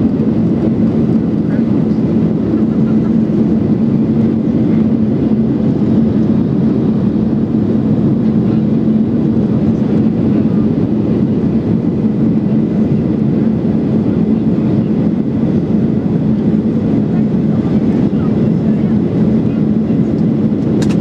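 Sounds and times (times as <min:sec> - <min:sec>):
jet engine cabin drone: 0:00.0 - 0:21.0.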